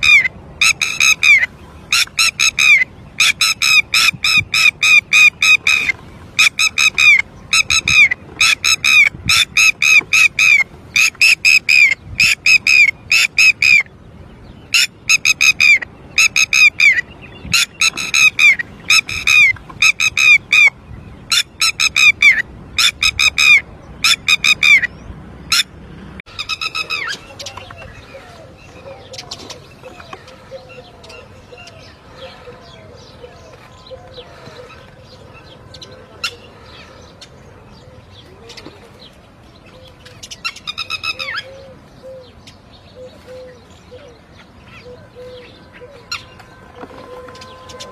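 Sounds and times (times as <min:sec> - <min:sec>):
lapwing alarm calls: 0:00.0 - 0:13.9, 0:14.7 - 0:25.7, 0:26.3 - 0:37.4, 0:39.7 - 0:47.9.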